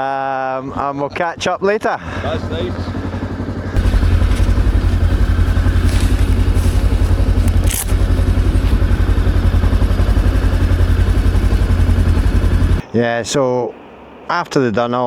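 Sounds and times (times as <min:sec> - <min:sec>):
motorcycle engine running: 0:00.7 - 0:12.8.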